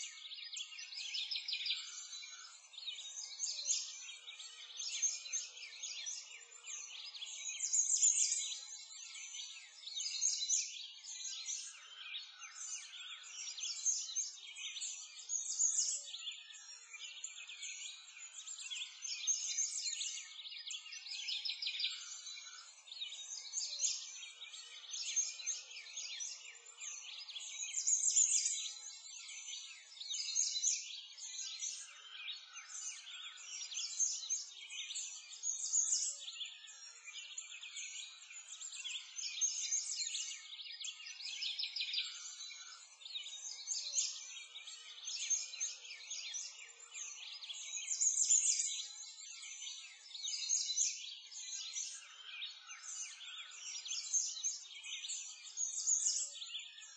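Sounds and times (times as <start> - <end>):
small birds chirping and twittering: 0.0 - 56.9.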